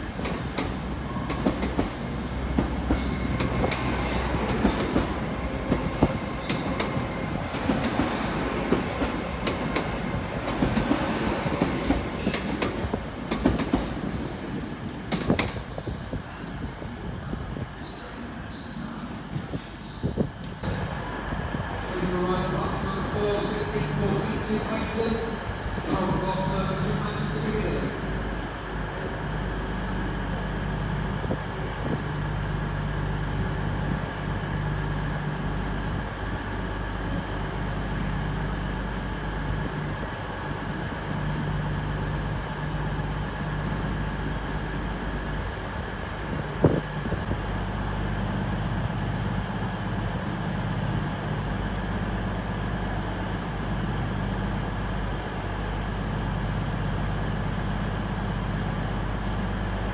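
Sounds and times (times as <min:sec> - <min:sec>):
train engines idling: 0:00.0 - 0:17.2, 0:18.1 - 0:59.9.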